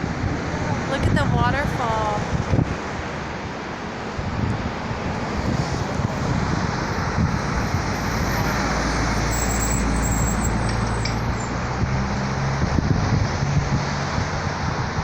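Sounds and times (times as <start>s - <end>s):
car engine hum: 0.0s - 15.0s
road and wind noise: 0.0s - 15.0s.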